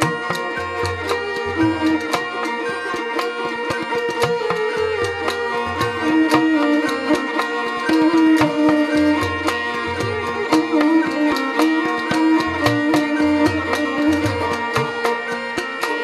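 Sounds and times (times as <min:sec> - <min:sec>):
bowed string melody: 0:00.0 - 0:16.0.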